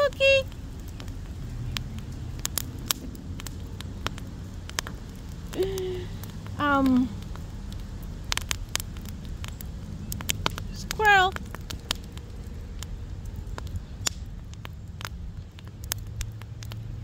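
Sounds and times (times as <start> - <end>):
sharp fire pops: 0.0 - 17.0
wood fire crackling: 0.0 - 17.0.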